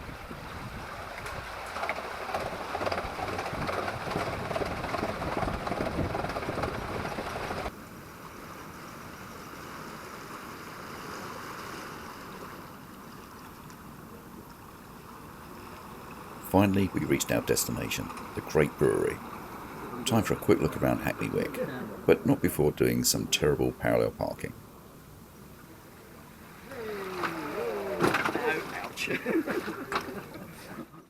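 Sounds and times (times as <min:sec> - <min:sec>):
boat rushing noise: 0:00.0 - 0:31.0.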